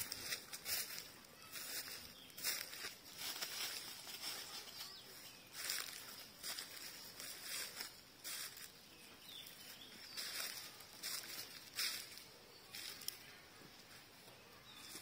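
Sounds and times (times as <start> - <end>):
faint outdoor hiss: 0.0 - 15.0
footsteps crunching dry leaves: 0.0 - 15.0.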